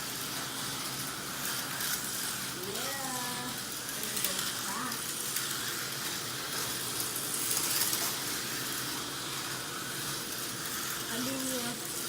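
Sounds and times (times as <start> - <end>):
slot car motors hissing: 0.0 - 12.0.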